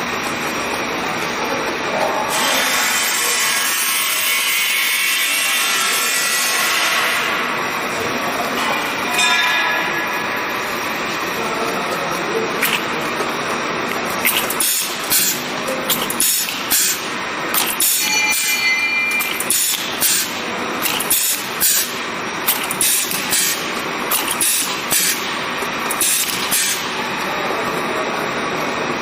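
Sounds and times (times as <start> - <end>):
filling machine mechanical din: 0.0 - 29.0.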